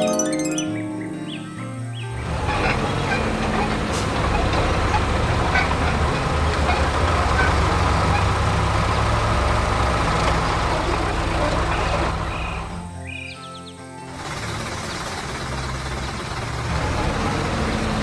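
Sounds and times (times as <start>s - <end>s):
heavy vehicle engine rumble: 2.1s - 12.8s, 14.1s - 18.0s.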